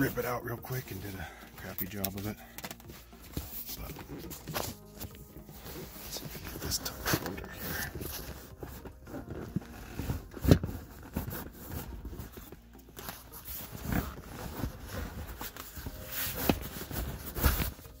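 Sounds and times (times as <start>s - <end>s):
hands rustling leather trim: 0.0s - 18.0s.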